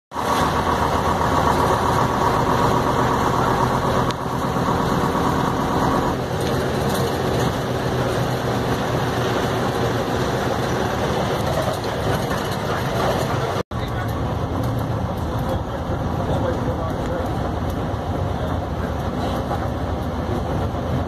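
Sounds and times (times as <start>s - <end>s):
diesel bus engine running: 0.1s - 21.0s.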